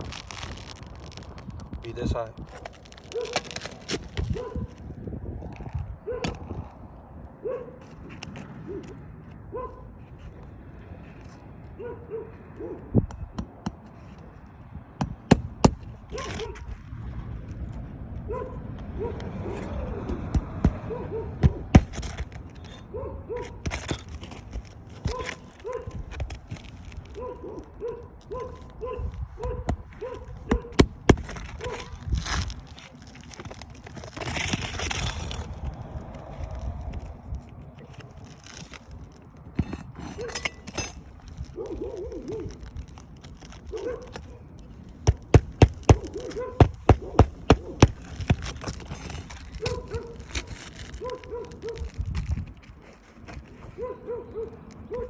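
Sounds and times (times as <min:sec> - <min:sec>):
shingles cracking and knocking: 0:00.0 - 0:04.9, 0:13.4 - 0:17.8, 0:18.8 - 0:53.8
shingles scraping and tearing: 0:00.0 - 0:06.9, 0:07.8 - 0:11.6, 0:13.4 - 0:55.0.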